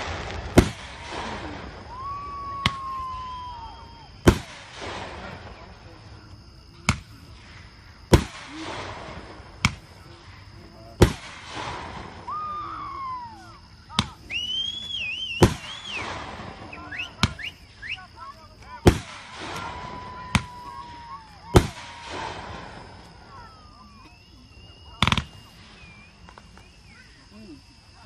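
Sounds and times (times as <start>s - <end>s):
firework shells bursting: 0.0s - 5.7s, 6.8s - 26.9s
high wavering firework tones: 0.0s - 28.0s.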